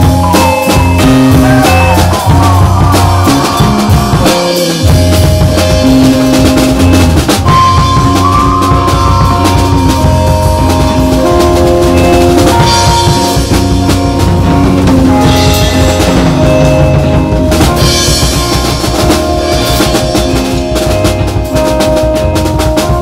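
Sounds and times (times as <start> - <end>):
acoustic drum kit playing: 0.0 - 23.0
recorded song with bass line: 0.0 - 23.0.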